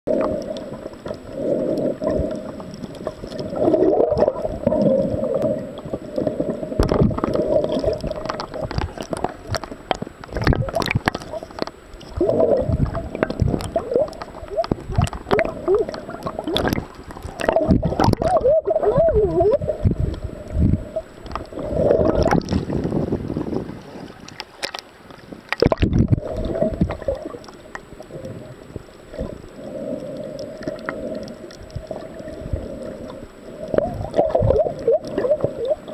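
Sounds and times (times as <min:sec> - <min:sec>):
muffled water sloshing underwater: 0:00.1 - 0:35.9.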